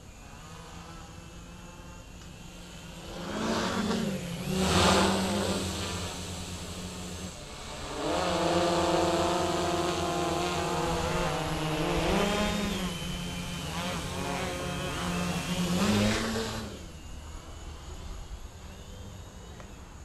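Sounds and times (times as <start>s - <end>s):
quadcopter motors humming: 0.0s - 20.0s.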